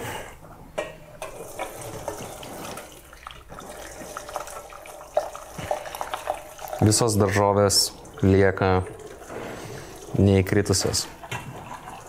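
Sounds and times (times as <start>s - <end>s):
liquid pouring and splashing: 1.2s - 12.0s.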